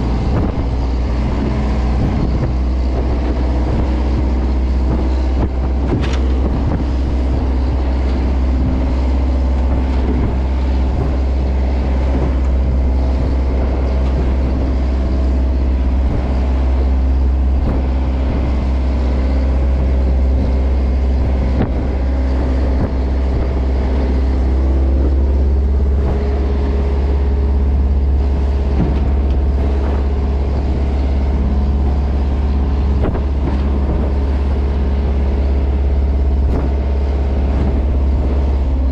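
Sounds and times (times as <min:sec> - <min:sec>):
diesel engine droning: 0:00.0 - 0:38.9
faint engine knocks: 0:00.0 - 0:38.9.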